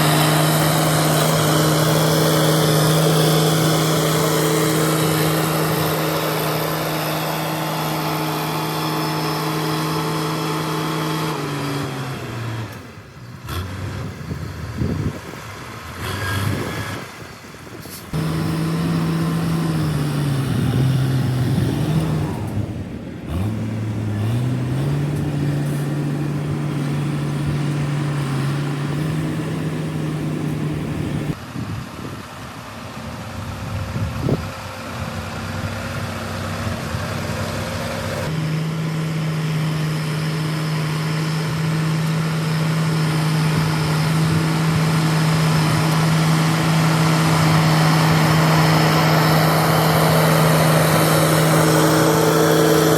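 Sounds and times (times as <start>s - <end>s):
bulldozer diesel engine: 0.0s - 52.9s.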